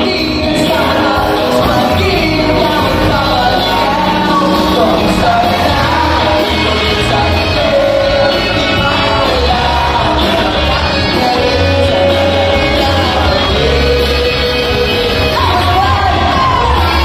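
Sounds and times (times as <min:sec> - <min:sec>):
drums: 0:00.0 - 0:17.0
electric guitar: 0:00.0 - 0:17.0
horn section: 0:00.0 - 0:17.0
sung vocals: 0:00.0 - 0:17.0.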